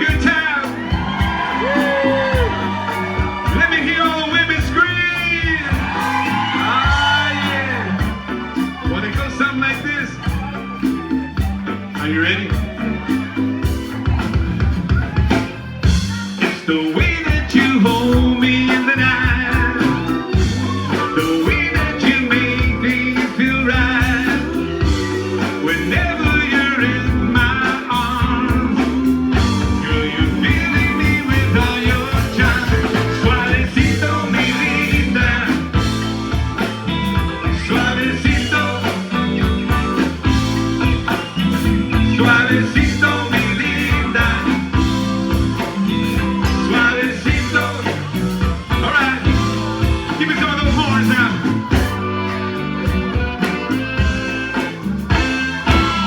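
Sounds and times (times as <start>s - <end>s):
drum beat: 0.0s - 56.0s
live rock band playing: 0.0s - 56.0s.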